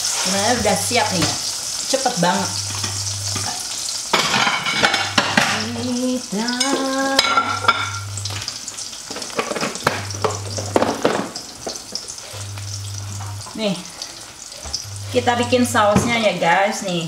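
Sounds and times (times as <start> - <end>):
eggs sizzling in a frying pan: 0.0 - 17.0.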